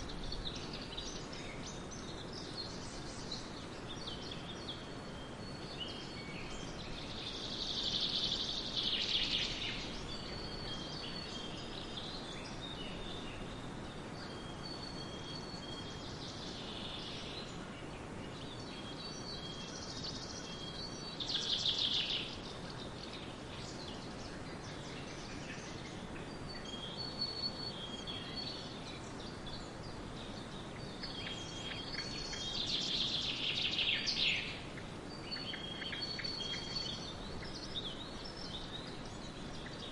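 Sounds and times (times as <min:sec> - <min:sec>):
background hiss: 0:00.0 - 0:39.9
bird trilling songs: 0:00.0 - 0:39.9
birds singing: 0:00.0 - 0:39.9.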